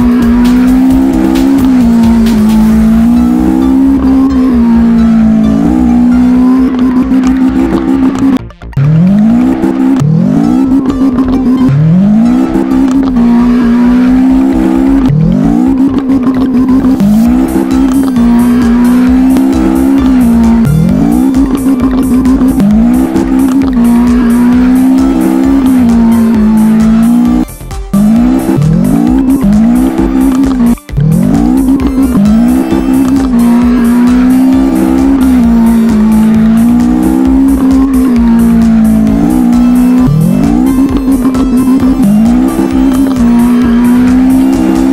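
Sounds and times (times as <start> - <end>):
background music: 0.0 - 44.9
race car engine revving: 0.0 - 44.9.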